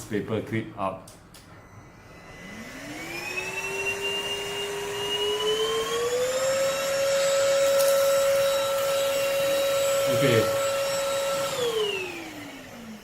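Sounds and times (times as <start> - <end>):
vacuum cleaner motor whine: 1.5 - 13.0.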